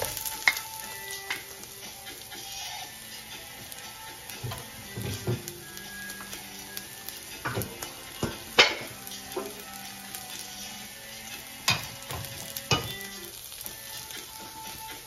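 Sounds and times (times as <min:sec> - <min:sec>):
onion sizzling in a wok: 0:00.0 - 0:15.0.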